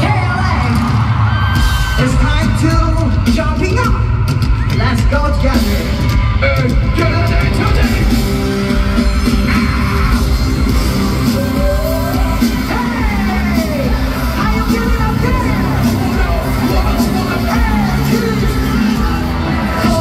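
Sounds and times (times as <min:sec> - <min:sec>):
crowd yelling: 0:00.0 - 0:20.0
live pop concert music: 0:00.0 - 0:20.0.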